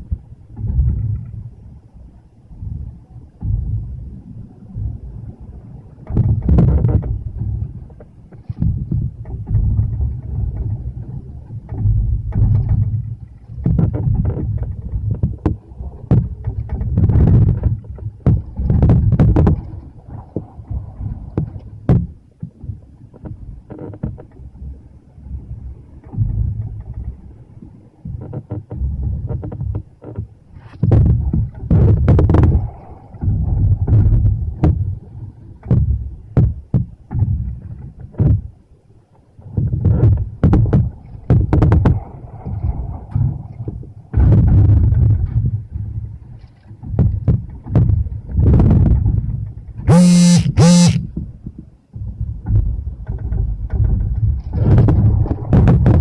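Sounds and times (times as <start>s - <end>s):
storm wind buffeting microphone: 0.0s - 23.6s, 30.8s - 38.6s, 39.5s - 49.9s, 51.1s - 56.0s
low rumble: 0.0s - 56.0s.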